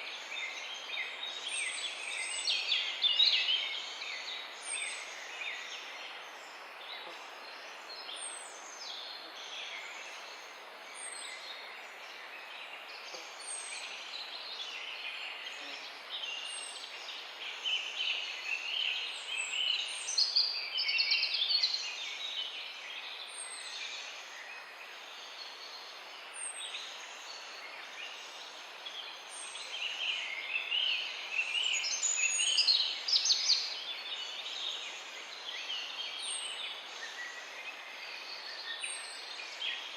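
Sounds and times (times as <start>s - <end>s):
songbirds singing chorus: 0.0s - 39.9s.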